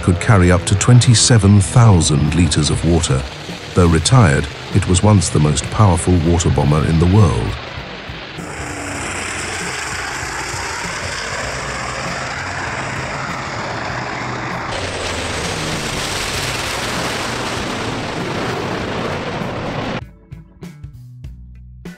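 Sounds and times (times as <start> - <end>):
propeller aircraft droning: 0.0 - 20.0
propeller aircraft flyover: 0.0 - 20.0.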